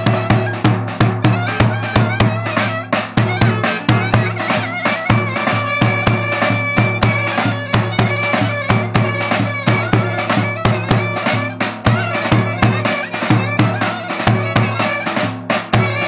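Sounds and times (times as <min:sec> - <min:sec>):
reedy wind instrument melody: 0:00.0 - 0:16.0
steady drum beat: 0:00.0 - 0:16.0.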